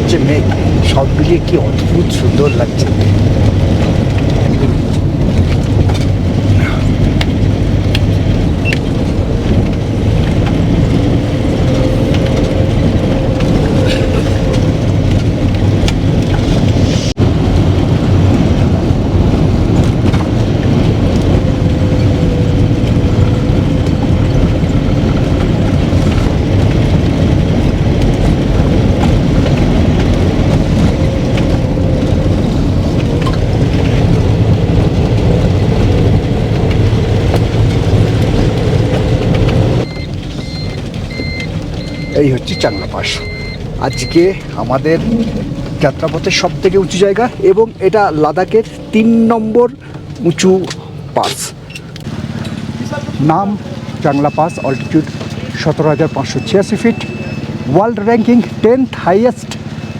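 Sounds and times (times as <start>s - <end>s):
knocks and rattles: 0.0s - 54.1s
vehicle engine and road noise: 0.0s - 59.9s.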